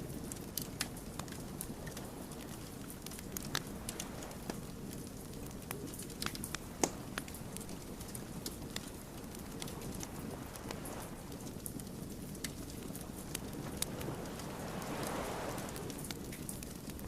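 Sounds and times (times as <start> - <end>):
low rumble of burning logs: 0.0 - 17.0
wood fire crackling: 0.0 - 17.0.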